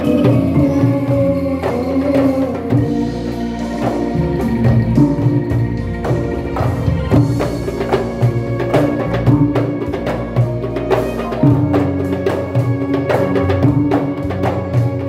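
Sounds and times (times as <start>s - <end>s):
angklung rattling chords: 0.0s - 15.0s
hand drums steady beat: 0.0s - 15.0s.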